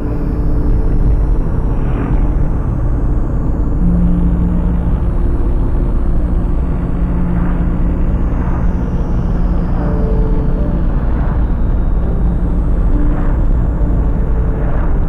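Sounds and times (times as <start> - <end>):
road and engine rumble: 0.0 - 15.0
steady drone: 0.0 - 15.0.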